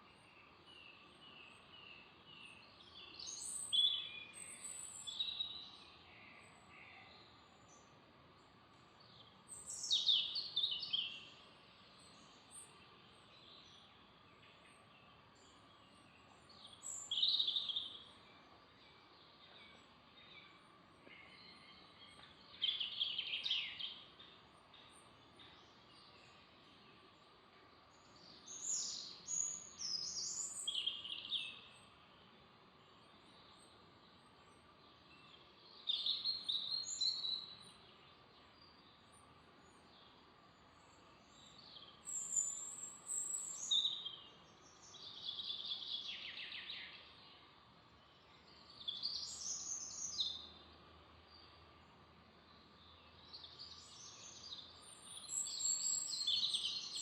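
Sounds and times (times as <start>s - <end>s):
faint background hiss: 0.0s - 57.0s
songbird singing: 0.0s - 57.0s.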